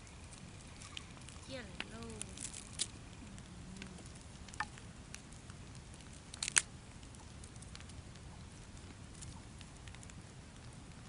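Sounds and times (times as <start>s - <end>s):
sharp snaps and crackles: 0.0s - 11.0s.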